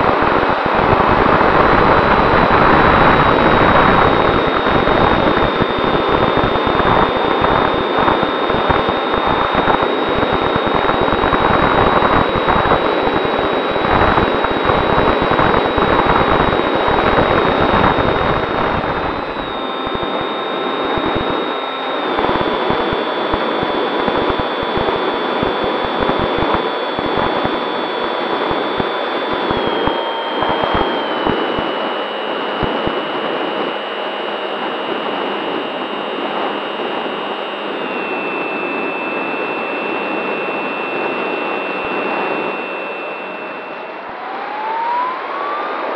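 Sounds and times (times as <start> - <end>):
electric motor and propeller whining: 0.0 - 45.9
wind rush on microphone: 0.0 - 45.9.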